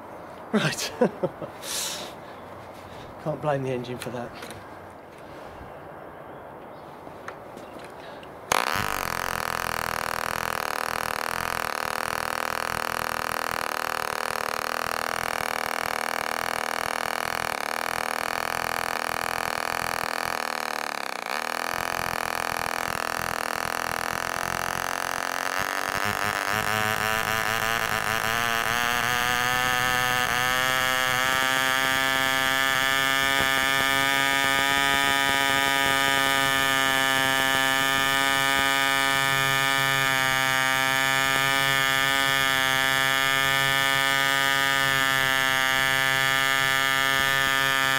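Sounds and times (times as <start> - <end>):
model engine running: 8.4 - 47.9.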